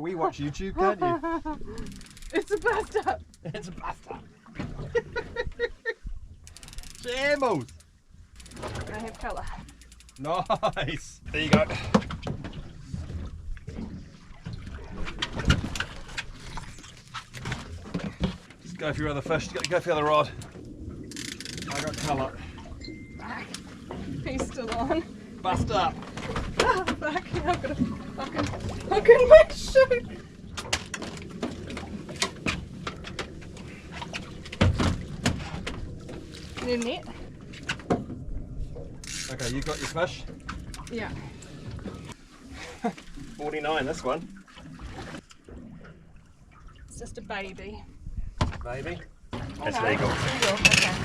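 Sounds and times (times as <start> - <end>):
boat low rumble: 0.0 - 51.0.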